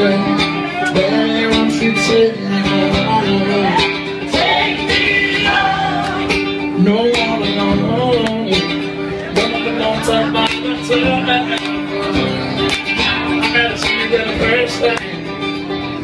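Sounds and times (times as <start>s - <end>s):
man singing: 0.0s - 15.6s
acoustic guitar strumming: 0.0s - 16.0s.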